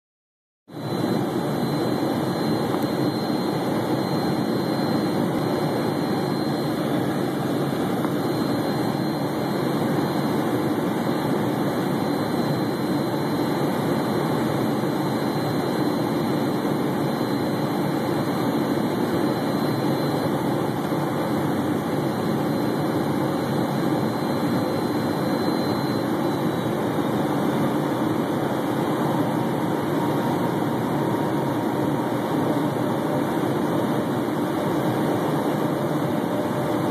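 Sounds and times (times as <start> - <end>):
jet cabin engine hum: 0.7 - 36.9
thin high whine: 0.7 - 36.9.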